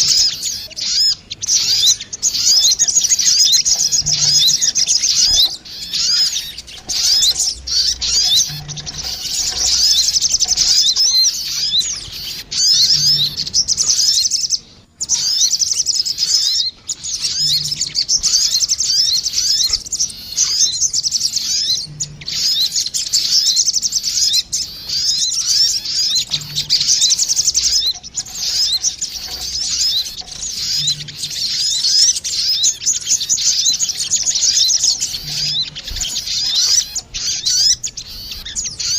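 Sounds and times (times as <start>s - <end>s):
birds twittering trills: 0.0s - 38.9s.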